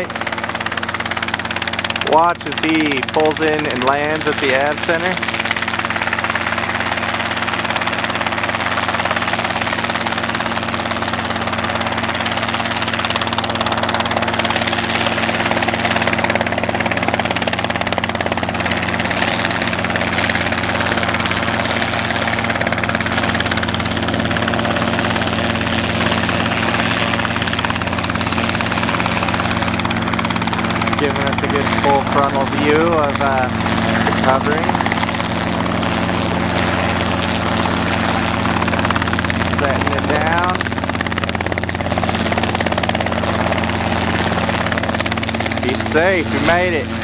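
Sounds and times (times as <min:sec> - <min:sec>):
helicopter engine and rotor drone: 0:00.0 - 0:47.0.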